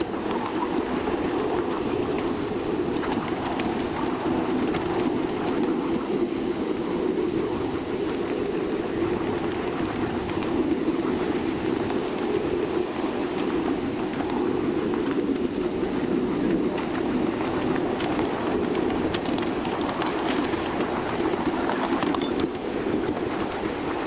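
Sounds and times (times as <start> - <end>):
escaping steam rushing: 0.0 - 24.0
wheels clicking on rails: 0.0 - 24.0.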